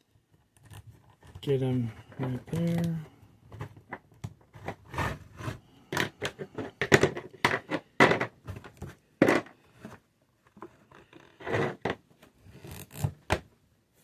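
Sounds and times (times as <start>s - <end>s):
plastic parts clicking and scraping: 0.3s - 13.5s.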